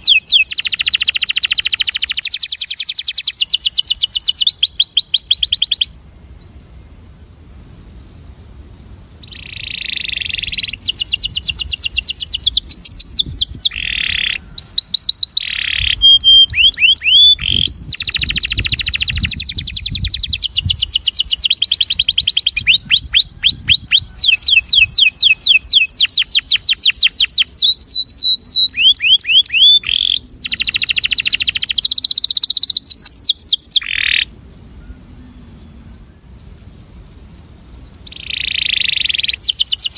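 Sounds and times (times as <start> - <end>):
canary singing trills: 0.0 - 8.2, 8.8 - 39.9.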